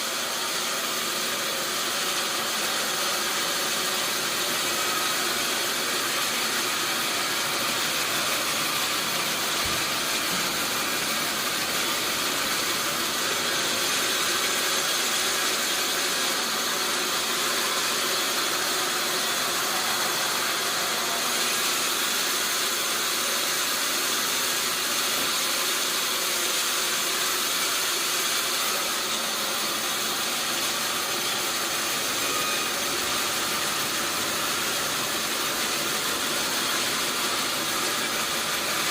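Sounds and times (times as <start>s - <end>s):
sawmill machinery hissing: 0.0s - 38.9s.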